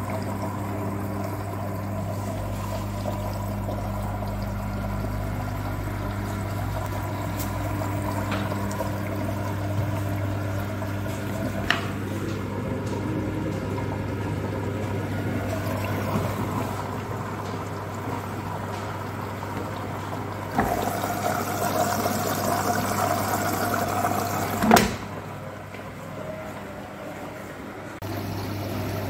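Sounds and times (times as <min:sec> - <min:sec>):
water sloshing in drum: 0:00.0 - 0:26.1
washing machine motor hum: 0:00.0 - 0:29.0.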